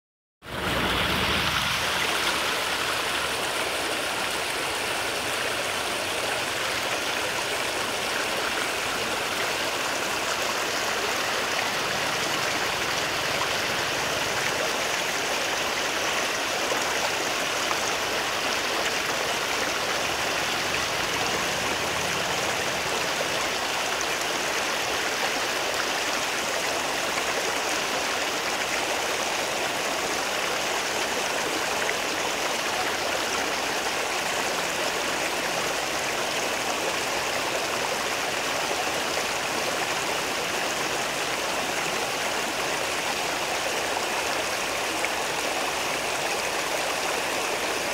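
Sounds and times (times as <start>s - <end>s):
water flowing in a stream: 0.4s - 47.9s.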